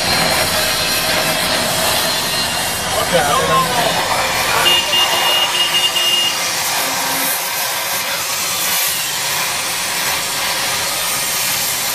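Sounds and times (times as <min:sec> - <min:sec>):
gas torch flame hissing: 0:00.0 - 0:11.9.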